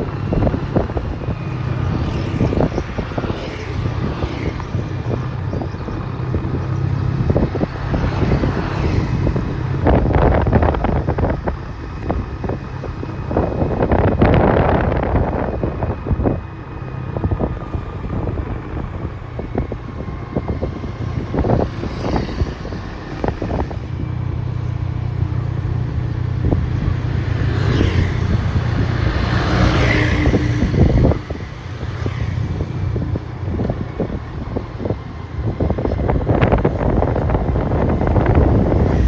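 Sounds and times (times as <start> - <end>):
vehicle engine hum: 0.0 - 39.0
wind on microphone: 0.0 - 39.0.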